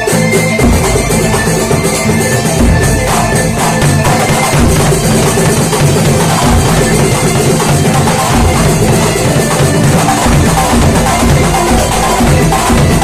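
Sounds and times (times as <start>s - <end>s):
hand drumming ensemble: 0.0s - 13.0s.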